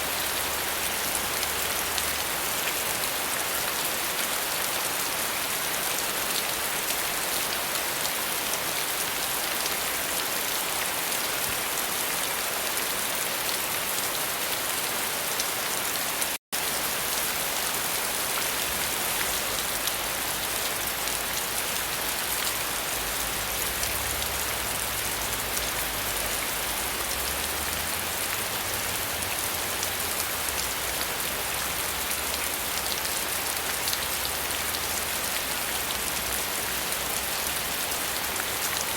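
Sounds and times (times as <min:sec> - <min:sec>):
dense rain falling: 0:00.0 - 0:38.9.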